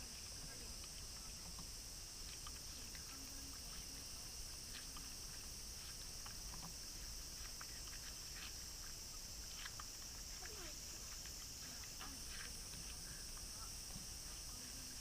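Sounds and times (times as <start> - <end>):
capybara chewing watermelon: 0.0 - 15.0
steady high-pitched hiss: 0.0 - 15.0.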